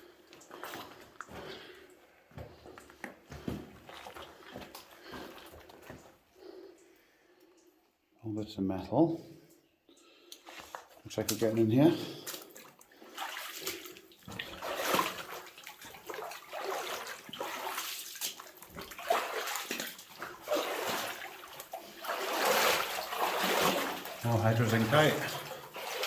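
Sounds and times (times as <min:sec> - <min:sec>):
footsteps wading through water: 0:00.0 - 0:06.5, 0:10.3 - 0:26.0.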